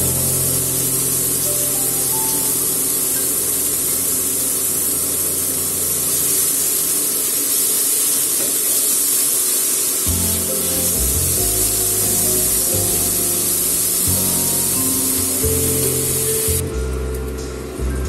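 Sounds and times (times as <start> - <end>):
background music: 0.0 - 6.7, 10.1 - 18.0
meat sizzling in a frying pan: 0.0 - 16.6.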